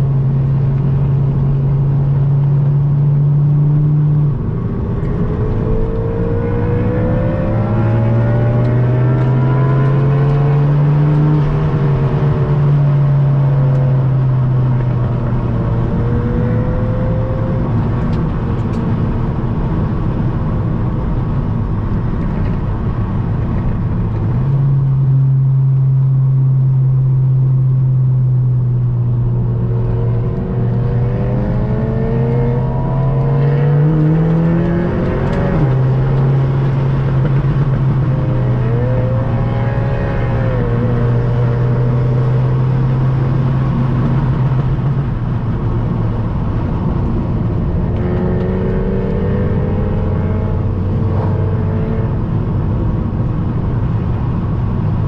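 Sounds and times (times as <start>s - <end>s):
car engine and exhaust drone: 0.0s - 55.0s.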